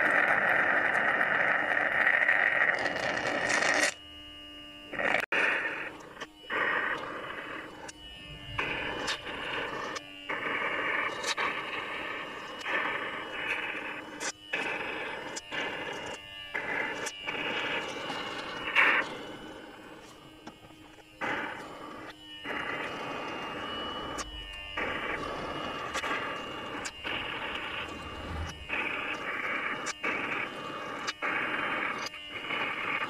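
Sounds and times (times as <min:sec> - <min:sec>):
faint steady hum: 0:00.0 - 0:33.0
vacuum hissing and slurping: 0:05.4 - 0:20.0, 0:21.2 - 0:33.0.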